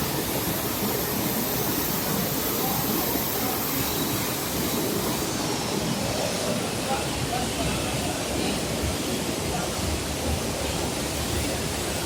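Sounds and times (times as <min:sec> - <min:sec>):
rushing flood water: 0:00.0 - 0:12.0.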